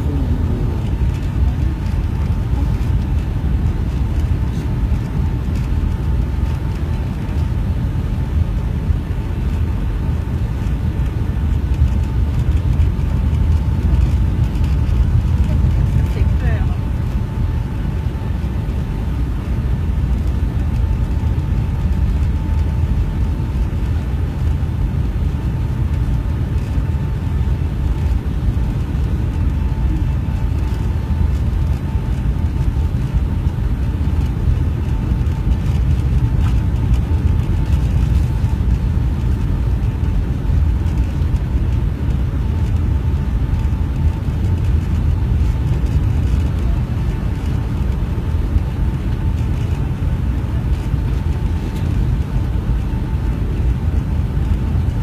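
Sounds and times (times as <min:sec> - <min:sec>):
jet engine and airflow rumble: 0:00.0 - 0:55.0
thin steady whine: 0:00.0 - 0:55.0.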